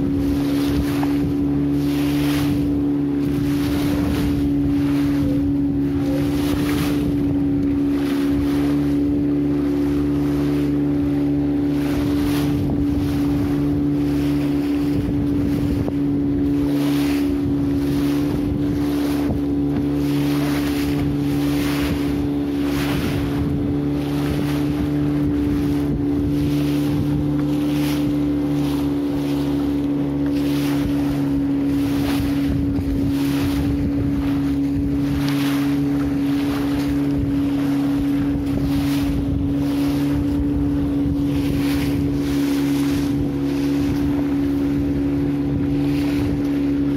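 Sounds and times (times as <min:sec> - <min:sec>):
engine running steadily: 0:00.0 - 0:46.9
wind buffeting microphone: 0:00.0 - 0:46.9.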